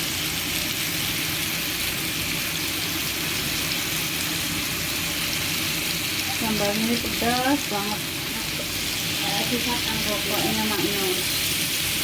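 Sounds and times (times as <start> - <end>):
chicken wings sizzling in a pan: 0.0 - 12.0.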